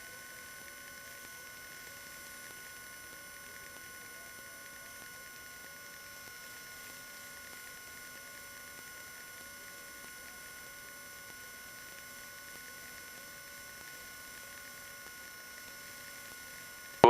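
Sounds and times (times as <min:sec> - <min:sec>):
small plane cockpit engine noise: 0:00.0 - 0:17.0.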